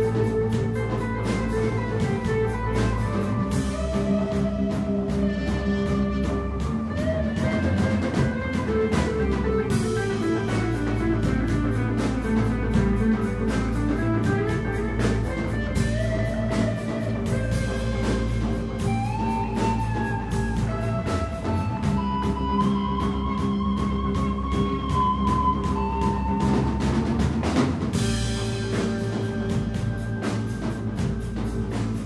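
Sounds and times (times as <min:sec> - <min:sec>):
drum kit beat: 0:00.0 - 0:32.0
electric guitar: 0:00.0 - 0:32.0
live instrumental rock band: 0:00.0 - 0:32.0.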